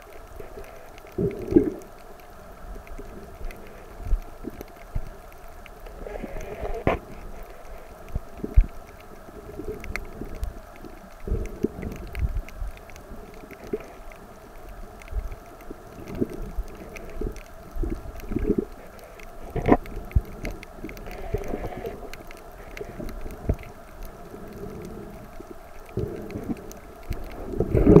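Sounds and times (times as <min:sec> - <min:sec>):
faint clicks: 0:00.0 - 0:28.0
low underwater hum: 0:00.0 - 0:28.0.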